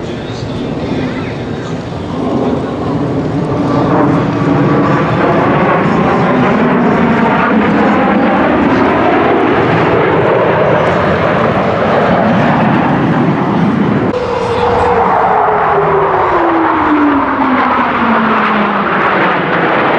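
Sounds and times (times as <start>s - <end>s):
aircraft engine flying over: 0.0s - 19.9s.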